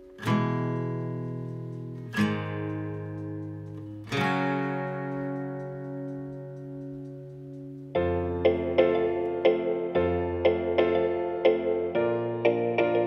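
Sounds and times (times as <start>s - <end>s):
acoustic guitar chords strummed: 0.0s - 13.0s.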